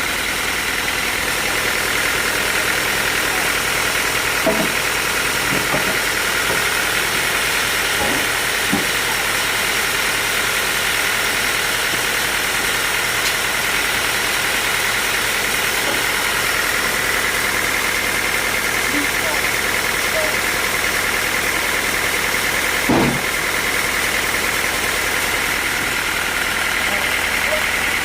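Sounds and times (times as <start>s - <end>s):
sawmill machinery running: 0.0s - 28.0s.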